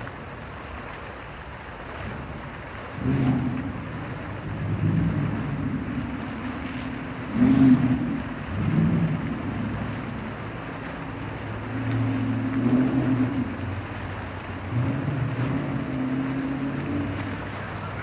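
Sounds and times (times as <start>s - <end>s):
fountain jets splashing into basin: 0.0s - 18.0s.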